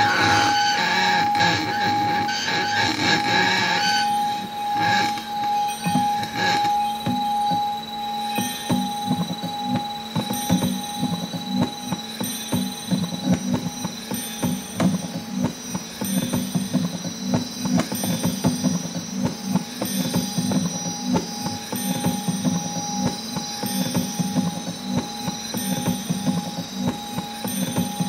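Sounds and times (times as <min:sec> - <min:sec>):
low drone: 0:00.0 - 0:28.0
steady high tones: 0:00.0 - 0:28.0.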